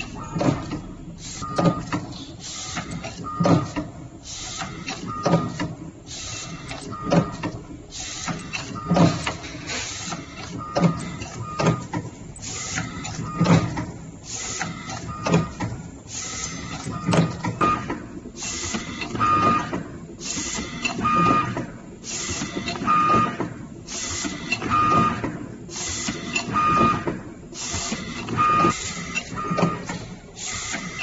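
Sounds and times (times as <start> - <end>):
packing machine clacking: 0.0 - 31.0.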